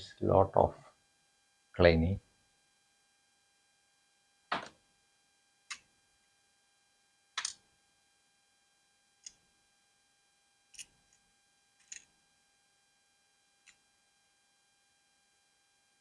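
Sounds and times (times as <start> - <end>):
faint electrical whine: 0.0 - 16.0.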